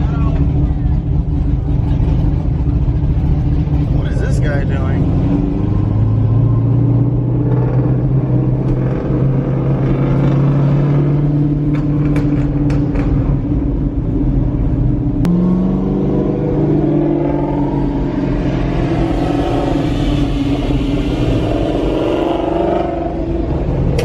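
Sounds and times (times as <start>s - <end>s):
muscle car engine rumbling: 0.0s - 24.0s.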